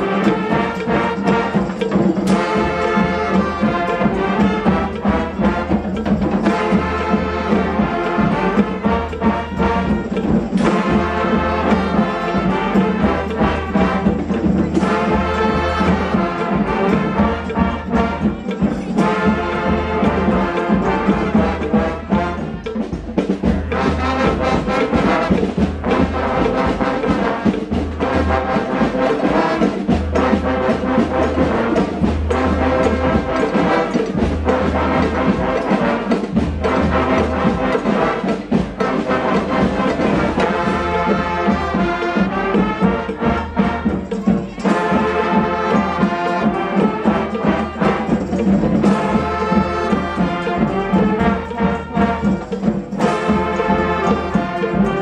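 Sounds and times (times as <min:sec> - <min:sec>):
drum beats: 0:00.0 - 0:55.0
horns playing a tune: 0:00.0 - 0:55.0.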